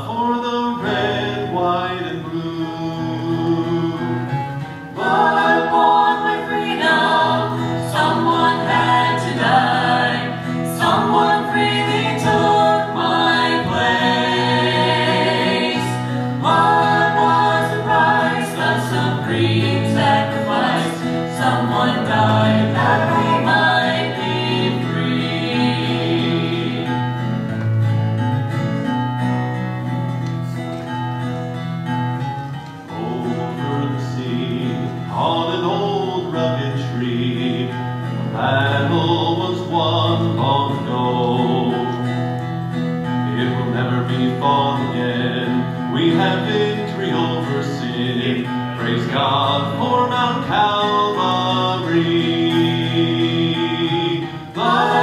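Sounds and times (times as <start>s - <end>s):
gospel trio singing in harmony: 0.0s - 28.3s, 32.9s - 55.0s
acoustic guitar: 0.0s - 55.0s.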